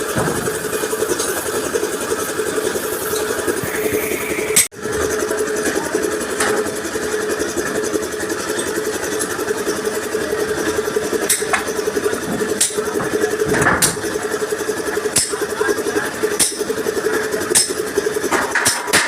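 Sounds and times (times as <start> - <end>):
engine-like running hum: 0.0 - 19.0.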